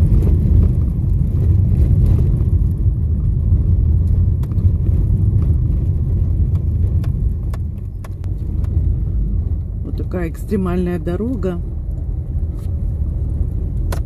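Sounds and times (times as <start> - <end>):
car rumbling on rough road: 0.0 - 14.0.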